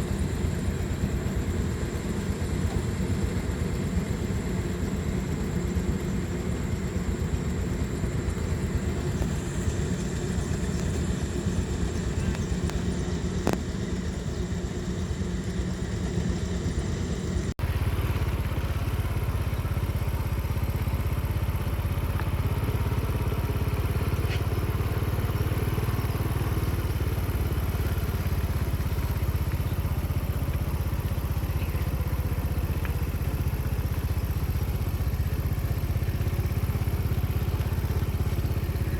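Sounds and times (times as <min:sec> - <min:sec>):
harvester engine running: 0:00.0 - 0:38.9.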